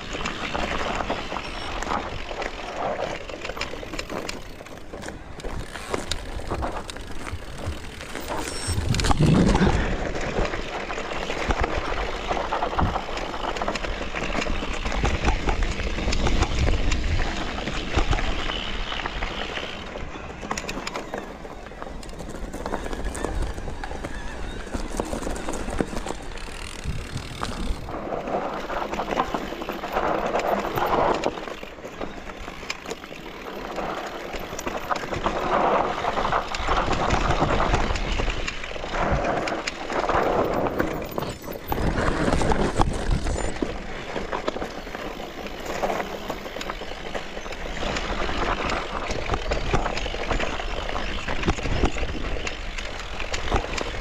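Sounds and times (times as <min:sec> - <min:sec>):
wind rumble on microphone: 0:00.0 - 0:32.6, 0:33.3 - 0:54.0
bike clicking and rattling: 0:00.0 - 0:54.0
bike tyres over dirt and stones: 0:00.0 - 0:54.0.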